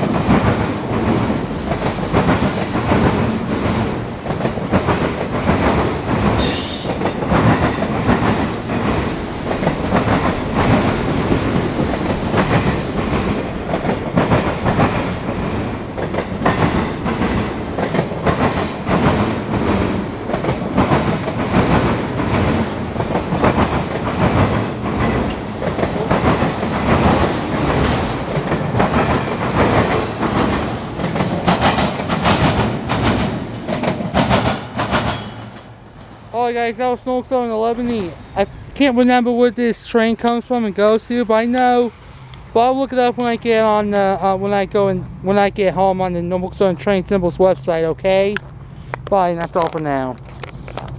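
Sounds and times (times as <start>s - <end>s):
freight train clickety-clack: 0.0s - 50.9s.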